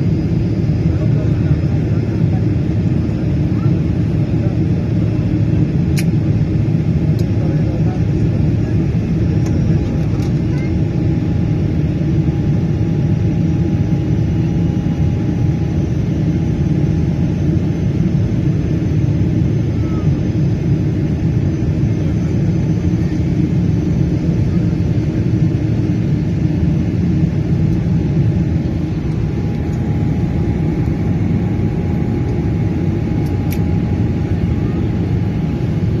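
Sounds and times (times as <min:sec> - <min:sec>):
faint steady whine: 0:00.0 - 0:36.0
jet engine and airflow rumble: 0:00.0 - 0:36.0.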